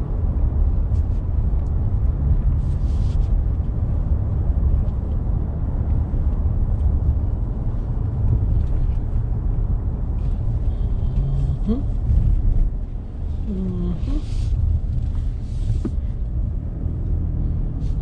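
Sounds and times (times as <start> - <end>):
road and engine rumble in a car: 0.0 - 18.0.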